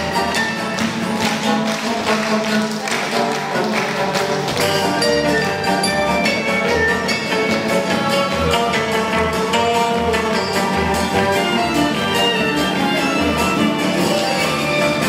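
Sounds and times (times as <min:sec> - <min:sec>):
orchestral folk dance music: 0:00.0 - 0:15.0.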